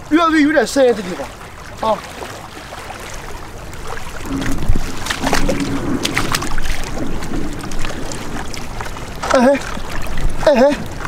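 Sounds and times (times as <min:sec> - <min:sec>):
seawater sloshing and splashing: 0:00.0 - 0:11.0
sharp splashes: 0:00.0 - 0:11.0.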